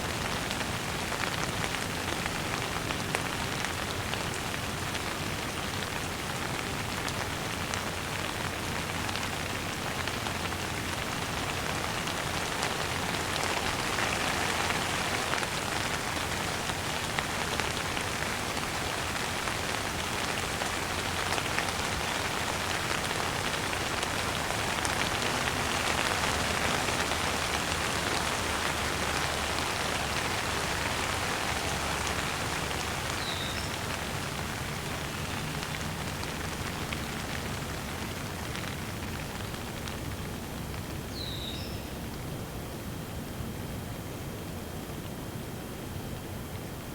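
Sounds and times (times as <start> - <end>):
light rain hiss: 0.0 - 46.9
raindrop ticks: 0.1 - 41.2.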